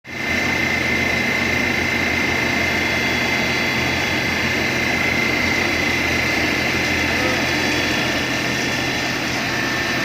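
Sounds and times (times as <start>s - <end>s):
high steady whine: 0.1s - 10.0s
machinery low hum: 0.1s - 10.0s.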